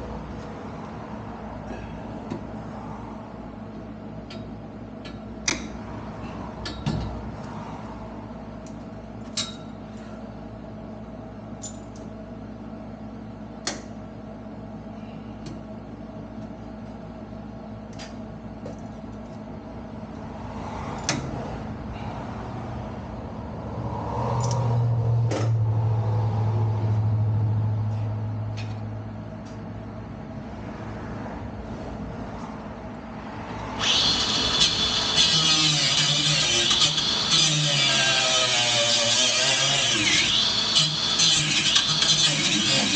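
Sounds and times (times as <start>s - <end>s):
steady mechanical hum: 0.0s - 42.9s.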